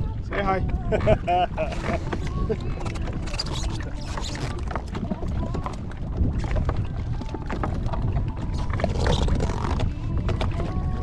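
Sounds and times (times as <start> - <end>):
water slapping against boat: 0.0 - 11.0
wind rumbling on microphone: 0.0 - 11.0.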